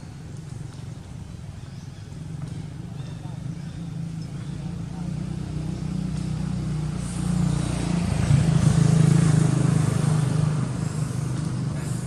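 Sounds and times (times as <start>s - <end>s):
vehicle engine passing by: 2.0s - 12.0s.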